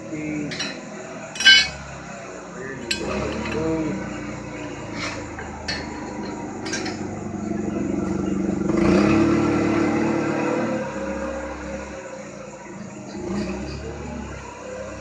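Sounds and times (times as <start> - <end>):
vehicle engine passing by: 2.3 - 15.0.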